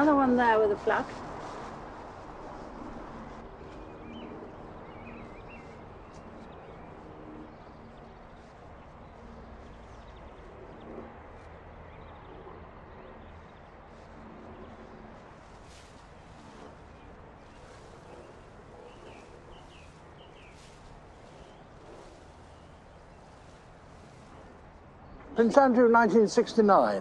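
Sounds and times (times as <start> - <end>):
footsteps on garden path: 0.0 - 12.1, 13.2 - 27.0
soft outdoor hush: 0.0 - 27.0.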